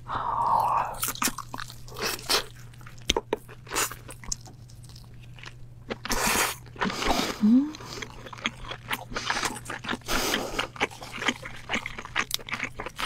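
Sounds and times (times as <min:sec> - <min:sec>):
biting and chewing crab meat: 0:00.7 - 0:07.2, 0:07.8 - 0:13.0.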